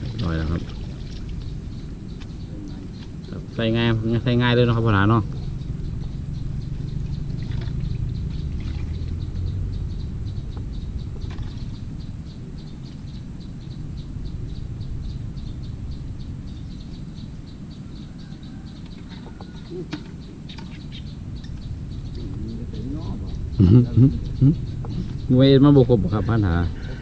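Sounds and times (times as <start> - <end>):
steady low rumble: 0.0 - 27.0
rhythmic high chirping: 1.3 - 27.0.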